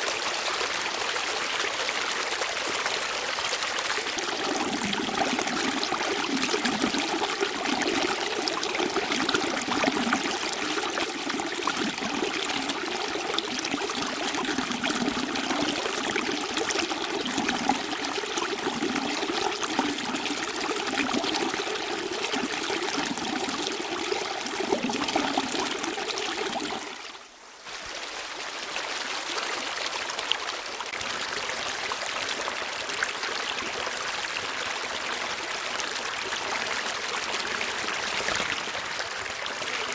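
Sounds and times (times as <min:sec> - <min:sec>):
stream flowing and gurgling: 0:00.0 - 0:39.9.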